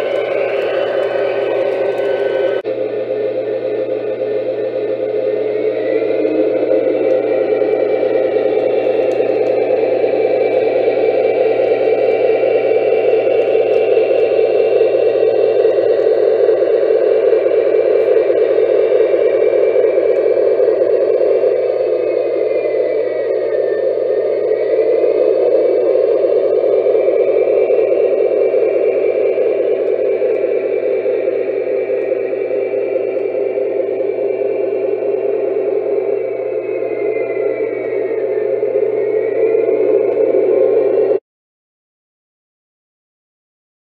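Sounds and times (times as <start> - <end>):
model train turbine rush: 0.0 - 41.2.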